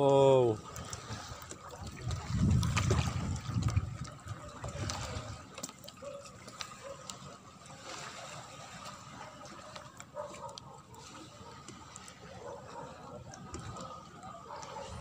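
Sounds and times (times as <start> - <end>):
faint water trickling: 0.0 - 15.0.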